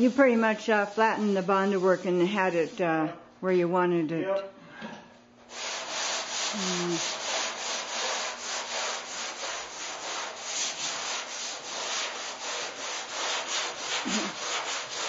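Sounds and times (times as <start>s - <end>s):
sanding board scraping filler: 0.0s - 2.7s, 5.5s - 15.0s.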